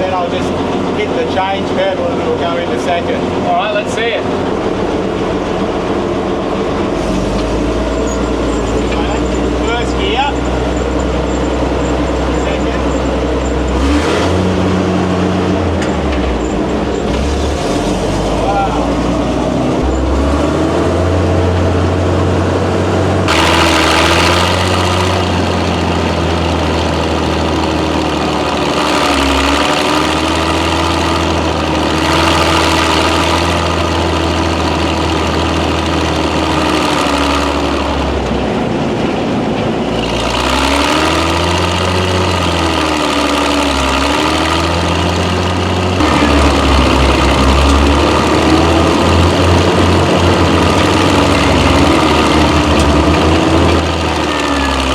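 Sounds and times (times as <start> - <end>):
tank engine revving: 0.0 - 54.9
tank running noise: 0.0 - 54.9.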